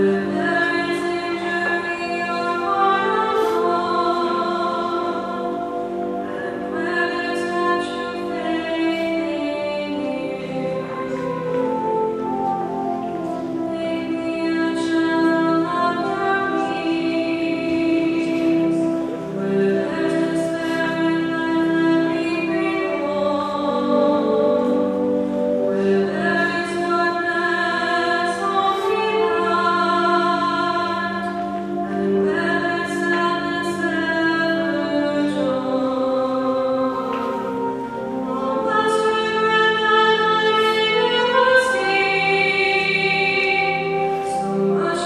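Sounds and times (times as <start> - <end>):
choir singing a hymn: 0.0 - 45.0.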